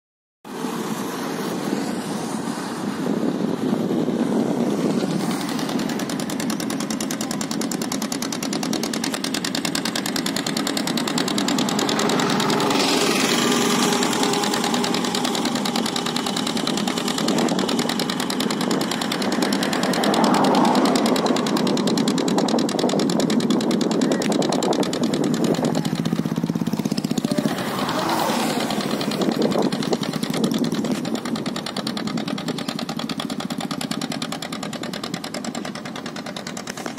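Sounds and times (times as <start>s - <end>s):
small boat engine chattering: 3.7s - 36.9s.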